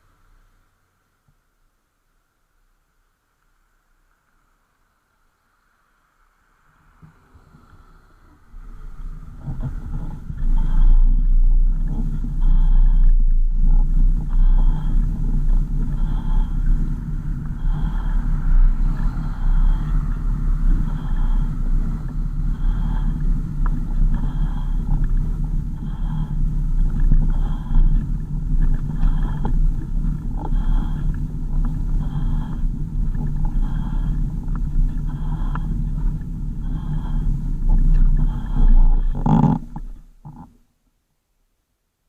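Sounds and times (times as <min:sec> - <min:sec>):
car engine and road rumble: 0:00.0 - 0:40.6.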